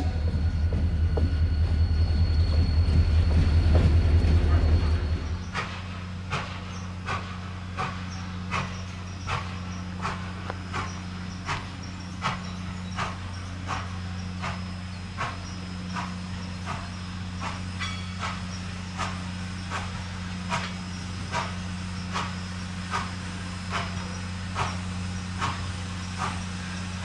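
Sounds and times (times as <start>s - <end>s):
steam locomotive chuffing: 0.0s - 27.0s.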